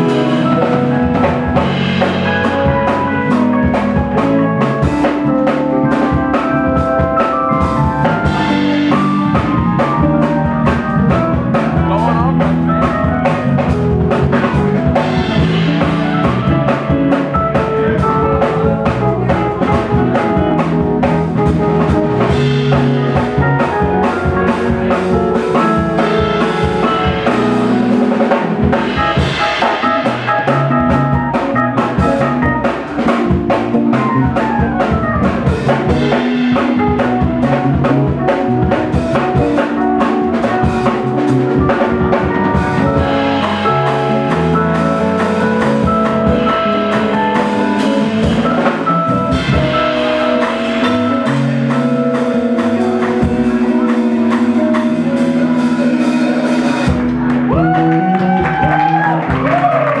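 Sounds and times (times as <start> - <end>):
drum kit: 0.0 - 60.0
live band playing: 0.0 - 60.0.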